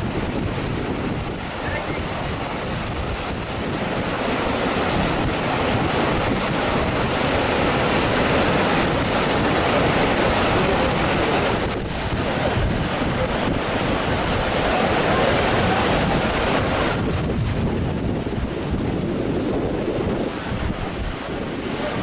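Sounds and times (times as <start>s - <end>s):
fast stream rushing: 0.0s - 22.0s
wind buffeting microphone: 0.0s - 22.0s.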